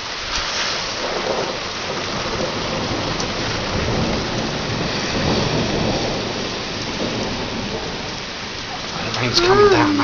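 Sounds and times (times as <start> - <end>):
heavy rain falling: 0.0 - 10.0
low rumble of thunder: 0.4 - 10.0.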